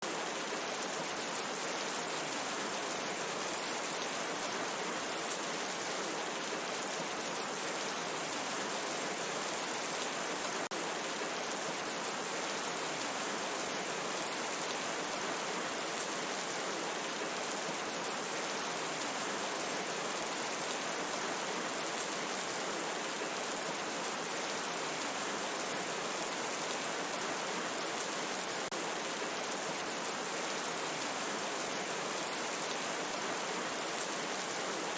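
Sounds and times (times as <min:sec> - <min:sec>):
steady rain in a forest: 0:00.0 - 0:34.9.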